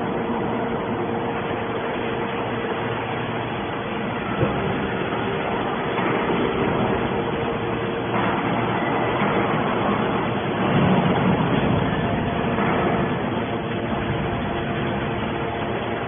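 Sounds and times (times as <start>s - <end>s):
hydraulic baler motor humming: 0.0s - 16.0s.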